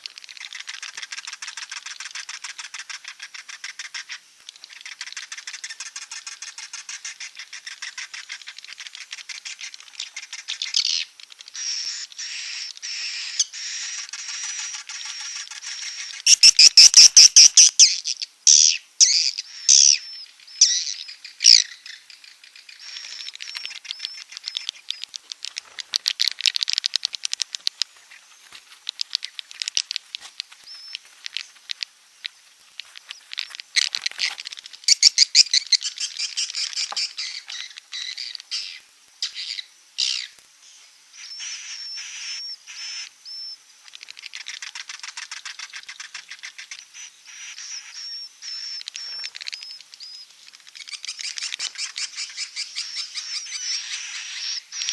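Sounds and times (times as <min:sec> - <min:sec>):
swiftlet clicks and buzzy chirps: 0:00.0 - 0:40.5, 0:41.2 - 0:54.9.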